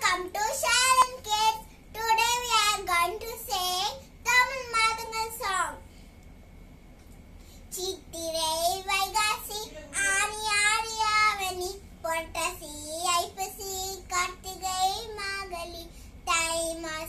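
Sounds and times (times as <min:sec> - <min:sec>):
girl singing unaccompanied: 0:00.0 - 0:05.8, 0:07.7 - 0:17.0.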